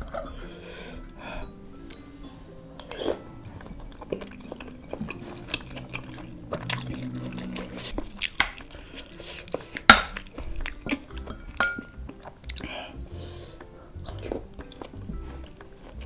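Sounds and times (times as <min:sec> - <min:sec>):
mouth chewing: 0:02.8 - 0:16.0.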